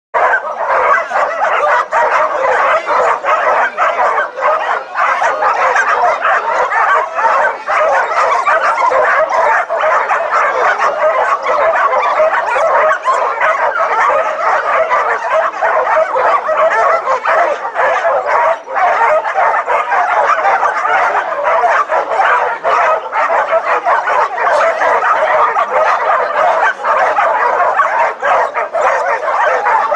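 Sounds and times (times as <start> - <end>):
pack of dogs barking and whining: 0.2 - 29.9.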